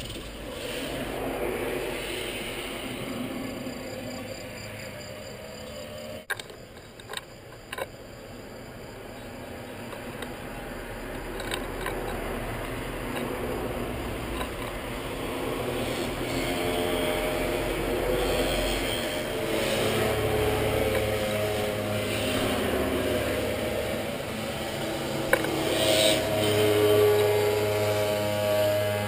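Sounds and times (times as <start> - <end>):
approaching engine: 0.0 - 29.0.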